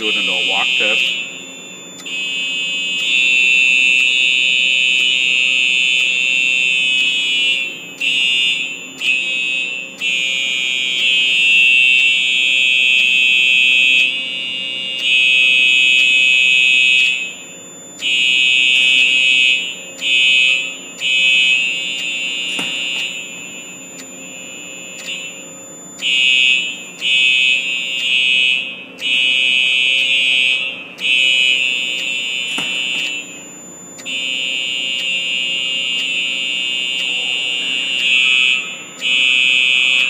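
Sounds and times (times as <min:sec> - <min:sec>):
fire alarm horns blasting: 0:00.0 - 0:40.0.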